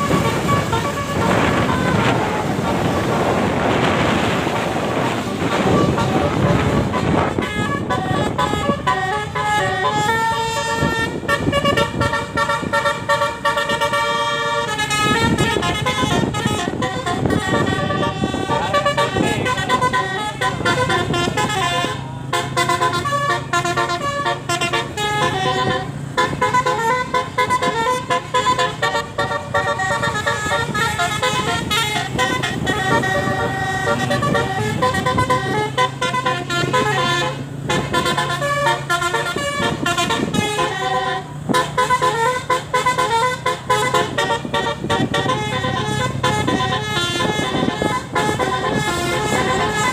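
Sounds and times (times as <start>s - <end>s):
low engine hum: 0.0s - 49.9s
musical bus horn playing tune: 0.0s - 49.9s.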